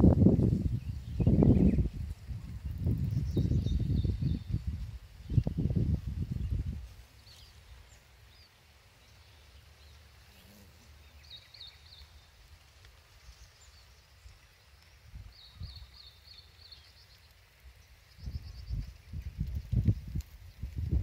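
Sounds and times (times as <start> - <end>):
wind rumble on microphone: 0.0 - 9.1, 11.1 - 17.1, 17.8 - 21.0.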